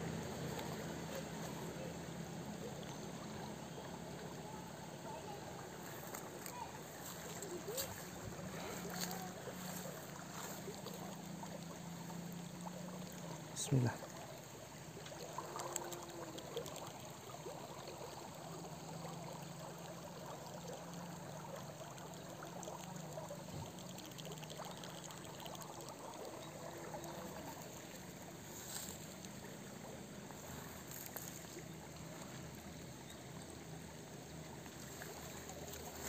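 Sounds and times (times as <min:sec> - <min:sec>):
river trickling over stones: 0:00.0 - 0:36.0.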